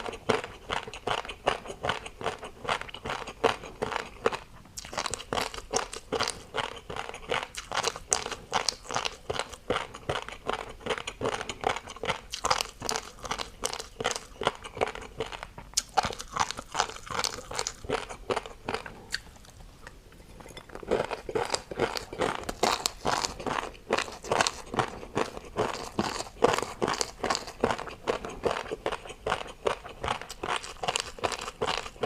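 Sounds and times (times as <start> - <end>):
person chewing crunchy food: 0.0 - 32.0.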